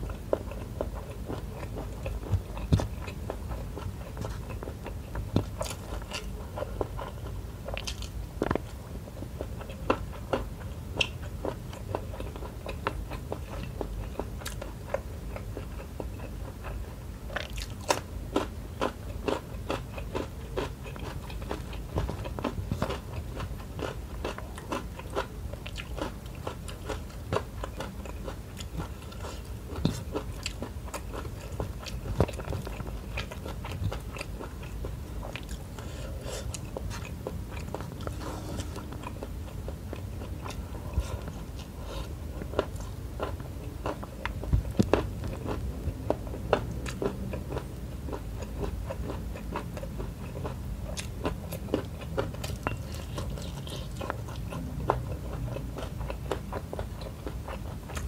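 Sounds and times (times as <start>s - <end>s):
person chewing food: 0.0s - 58.0s
steady low hum: 0.0s - 58.0s.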